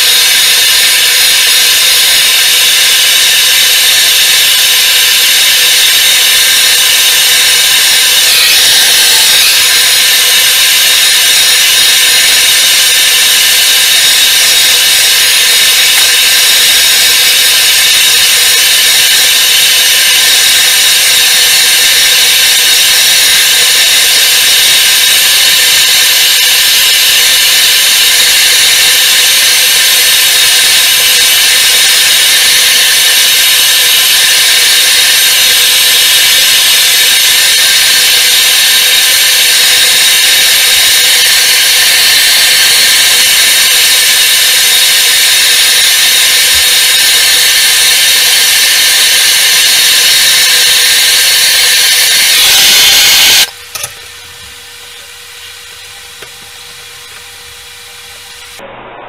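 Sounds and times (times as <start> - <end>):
gas torch hissing: 0.0 - 53.9.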